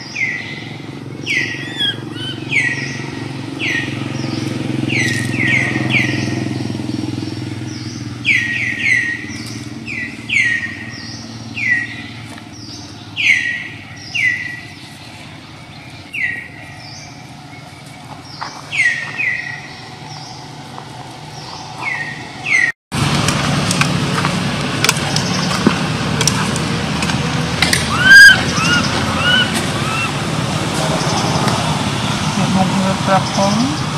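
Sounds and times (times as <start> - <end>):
bird chirping: 0.0 - 22.7, 27.8 - 30.2, 30.9 - 33.9
low engine hum: 0.0 - 33.9.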